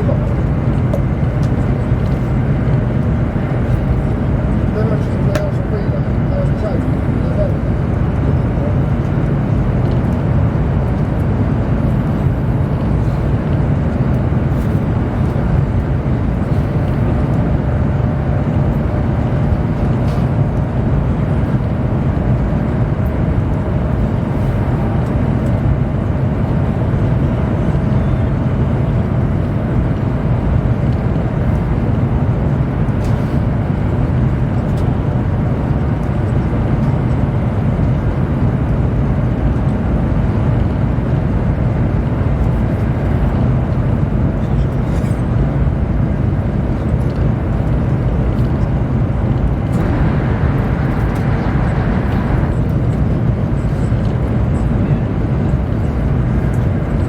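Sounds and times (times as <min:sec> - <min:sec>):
train cabin rumble and rushing: 0:00.0 - 0:57.0.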